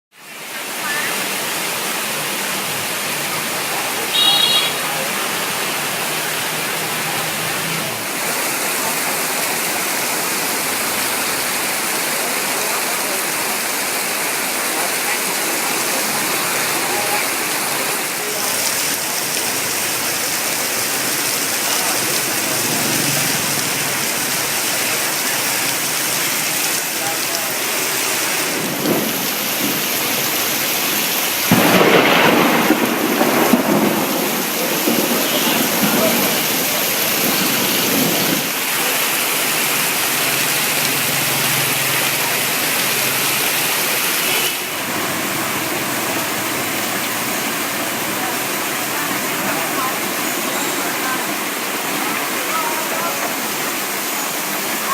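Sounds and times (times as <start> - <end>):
heavy rain pouring: 0.1 - 54.9
rushing surge of water: 0.1 - 54.9.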